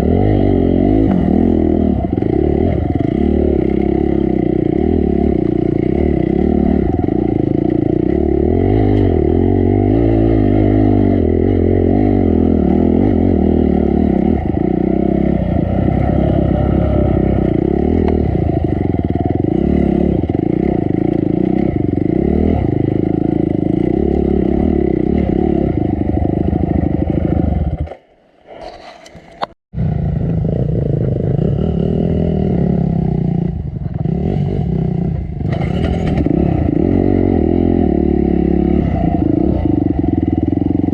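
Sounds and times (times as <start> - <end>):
dirt bike engine revving: 0.0 - 28.0, 29.8 - 40.9.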